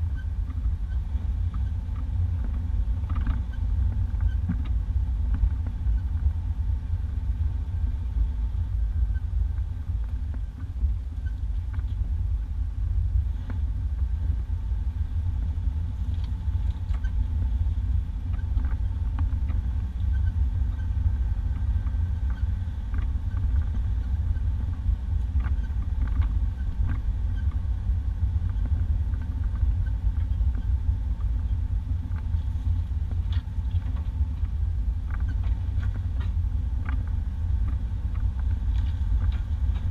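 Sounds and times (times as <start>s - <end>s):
engine and road rumble: 0.0s - 39.9s.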